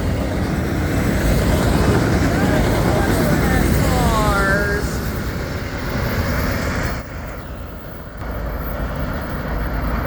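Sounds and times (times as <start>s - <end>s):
freight cars rolling on rails: 0.0s - 10.0s.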